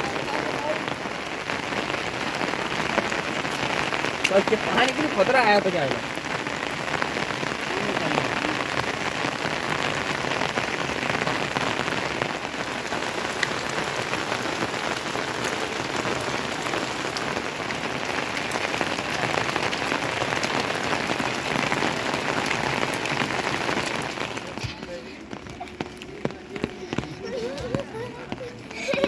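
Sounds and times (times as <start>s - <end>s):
heavy rain: 0.0s - 29.0s
raindrops pattering on a surface: 0.0s - 29.0s.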